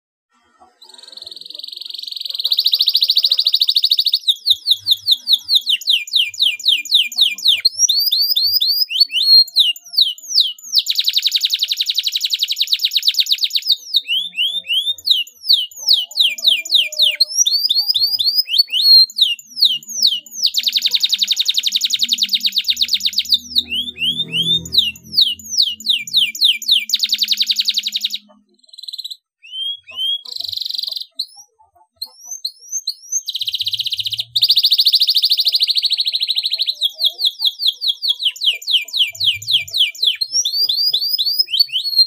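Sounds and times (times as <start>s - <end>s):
canary singing trills: 0.4s - 42.0s.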